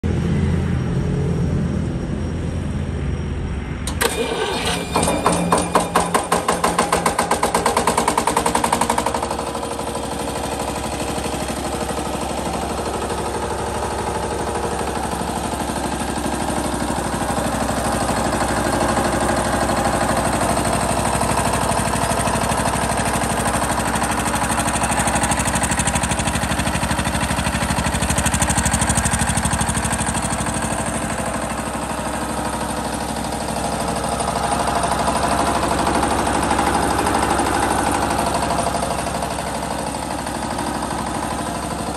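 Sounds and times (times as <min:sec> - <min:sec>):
diesel generator engine running: 0:00.0 - 0:41.9
generator engine cranking: 0:03.8 - 0:41.9.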